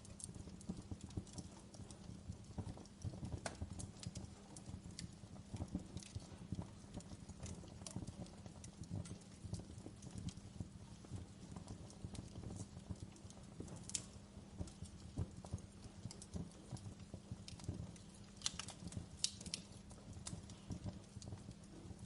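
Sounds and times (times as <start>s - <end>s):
fire pops and cracks: 0.0s - 22.0s
wood fire crackling: 0.0s - 22.0s.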